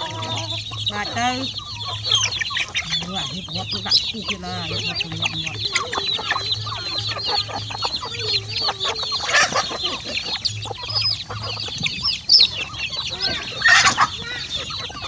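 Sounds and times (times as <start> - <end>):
chicks peeping: 0.0 - 15.0
hens clucking: 0.0 - 15.0.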